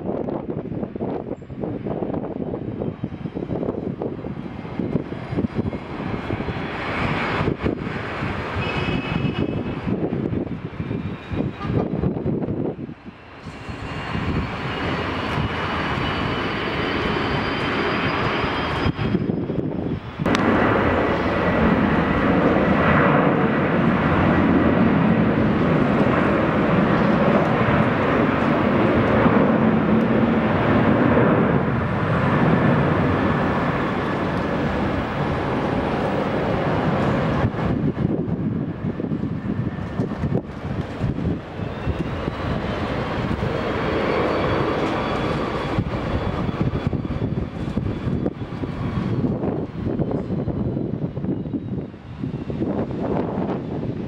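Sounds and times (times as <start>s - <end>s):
jet engines at takeoff thrust: 0.0s - 54.0s
jet plane climbing away: 0.0s - 54.0s.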